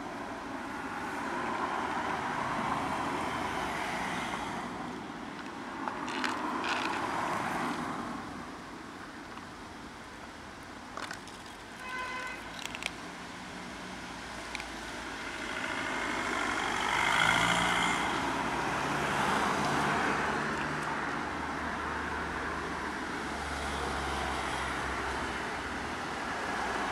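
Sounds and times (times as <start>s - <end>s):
road traffic rumble: 0.0s - 26.9s.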